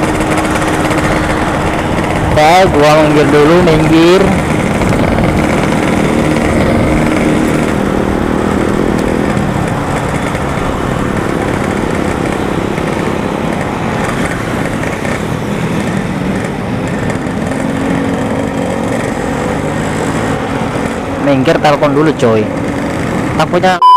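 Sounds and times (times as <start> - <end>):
two-stroke motorcycle engine: 0.0 - 23.8
road and wind noise: 0.0 - 23.9.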